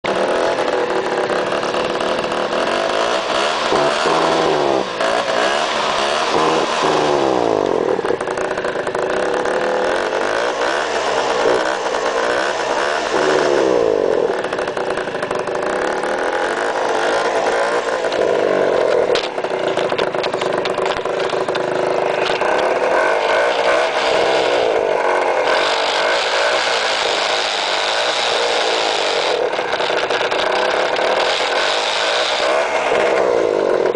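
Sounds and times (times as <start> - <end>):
scooter engine revving: 0.0 - 33.9.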